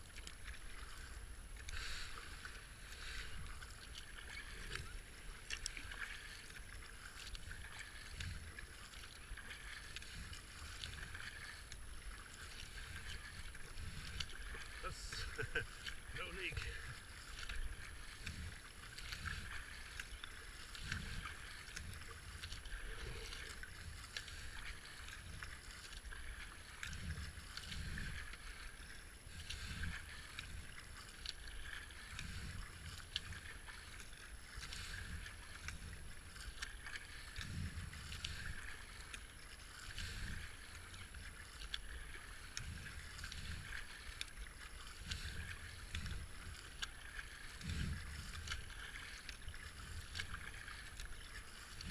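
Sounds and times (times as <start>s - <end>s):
paddle splashing in water: 0.0s - 51.9s
water washing along hull: 0.0s - 51.9s.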